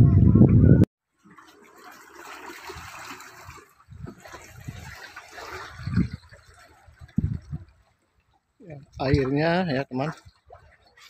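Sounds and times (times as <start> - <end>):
waves lapping among boulders: 1.1 - 11.0.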